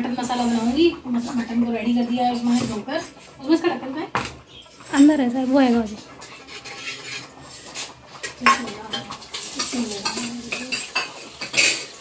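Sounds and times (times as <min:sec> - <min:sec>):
metal pots and utensils clattering: 0:00.0 - 0:12.0.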